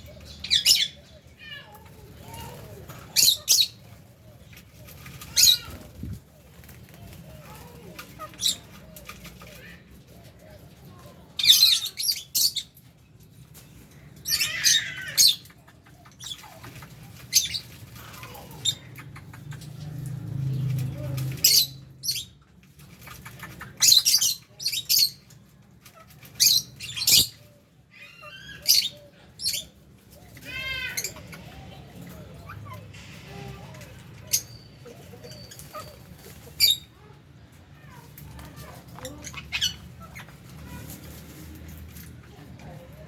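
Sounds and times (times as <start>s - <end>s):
lovebirds chirping shrilly: 0.0s - 9.7s, 11.4s - 12.8s, 13.9s - 25.4s, 26.2s - 37.0s, 38.6s - 40.9s.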